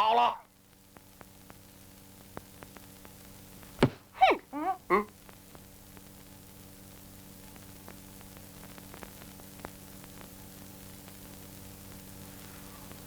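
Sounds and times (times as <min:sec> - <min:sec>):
film soundtrack hiss and hum: 0:00.0 - 0:13.0
faint crackle ticks: 0:00.5 - 0:03.8, 0:05.1 - 0:13.0.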